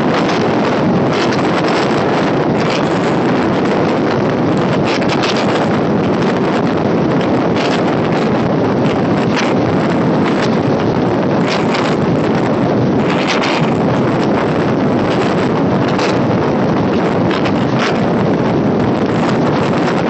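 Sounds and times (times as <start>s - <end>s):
train running on track: 0.0s - 20.0s
wind buffeting microphone: 0.0s - 20.0s.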